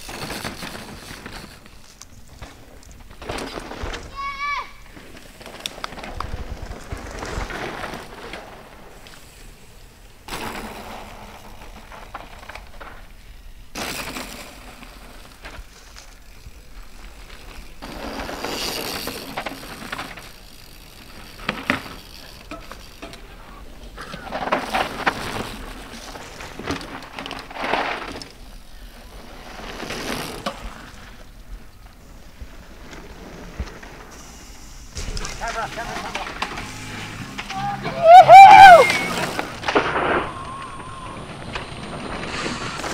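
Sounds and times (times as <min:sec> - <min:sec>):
bikes knocking and rattling: 0:00.0 - 0:42.9
mountain bikes passing on dirt: 0:00.0 - 0:42.9
tyres skidding through loose dirt: 0:00.0 - 0:42.9.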